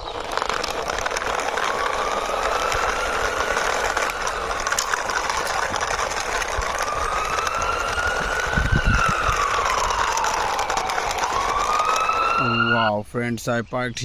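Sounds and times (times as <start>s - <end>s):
rattling whir: 0.0s - 12.9s
toy siren wailing: 0.0s - 13.0s.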